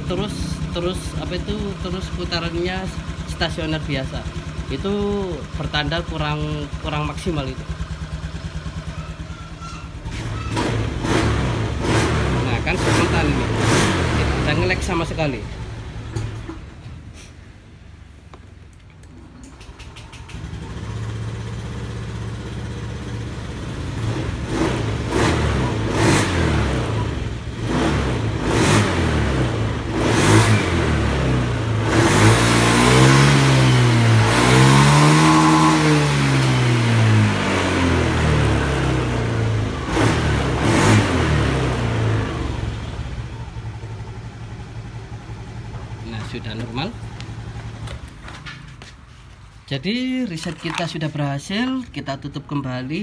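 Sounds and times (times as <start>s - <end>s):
scooter engine revving: 0.0s - 17.1s, 19.6s - 48.9s.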